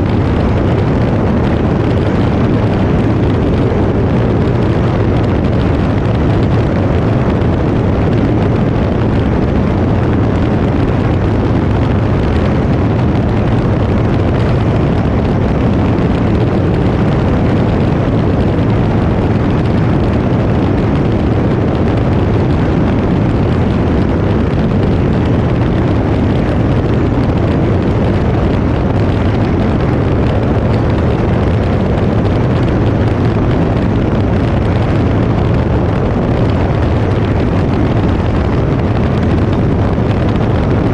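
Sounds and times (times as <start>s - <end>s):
aircraft engine and propeller drone: 0.0s - 40.9s
rushing air: 0.0s - 40.9s.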